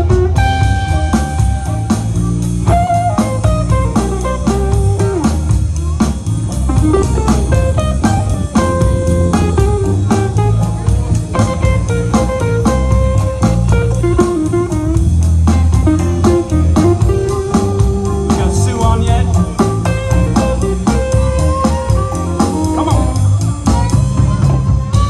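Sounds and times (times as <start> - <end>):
bending lead guitar notes: 0.0 - 25.0
live blues band playing: 0.0 - 25.0.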